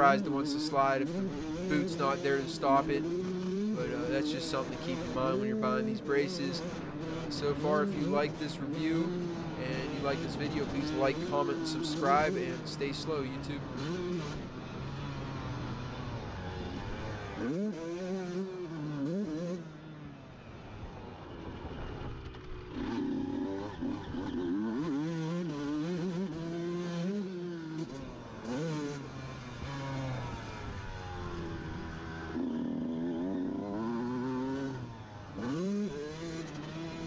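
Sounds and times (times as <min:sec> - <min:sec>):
dirt bike engine revving: 0:00.0 - 0:19.7, 0:22.4 - 0:37.0.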